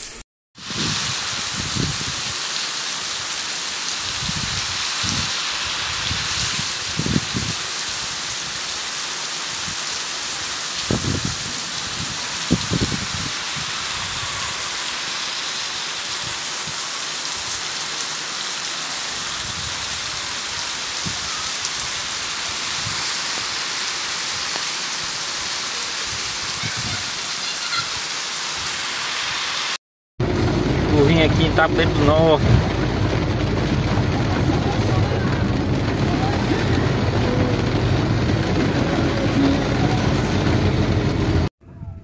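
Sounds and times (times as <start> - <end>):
heavy rain on roofs: 0.6 - 41.5.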